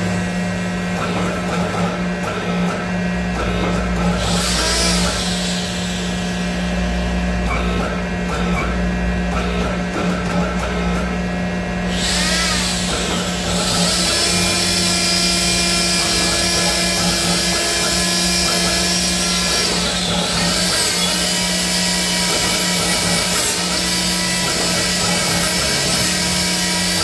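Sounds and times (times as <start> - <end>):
machine motor hum: 0.0 - 27.0.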